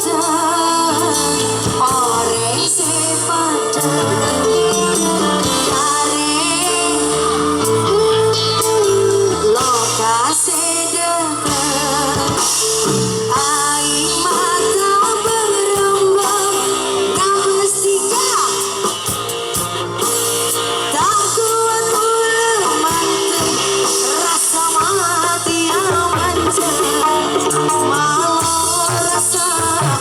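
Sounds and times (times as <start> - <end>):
rock song over outdoor sound system: 0.0 - 30.0.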